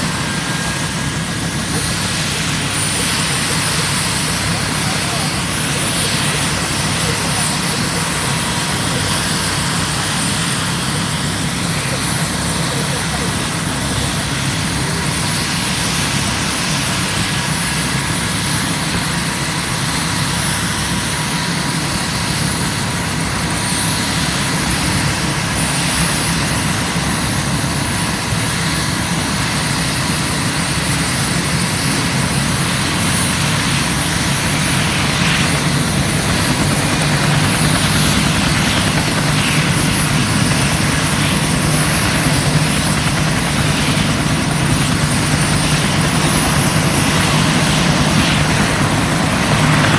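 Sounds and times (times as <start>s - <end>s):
helicopter engine whine: 0.0s - 49.9s
helicopter rotor drone: 0.0s - 49.9s.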